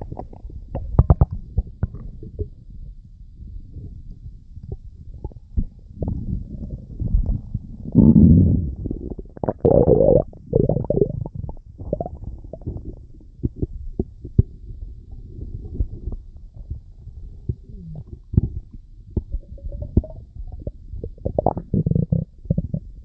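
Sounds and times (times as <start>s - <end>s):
stomach rumbling and gurgling: 0.0s - 23.0s.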